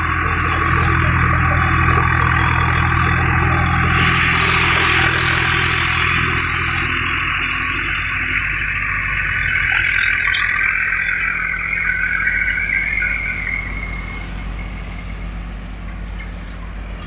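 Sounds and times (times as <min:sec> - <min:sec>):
threshing drum whirring: 0:00.0 - 0:17.0
tractor engine droning: 0:00.0 - 0:17.0.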